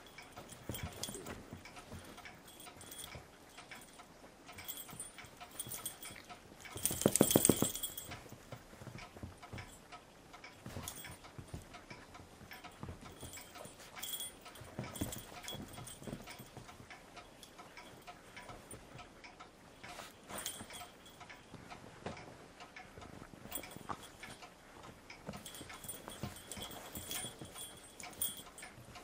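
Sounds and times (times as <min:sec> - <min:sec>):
paws and claws tapping: 0:00.0 - 0:29.0.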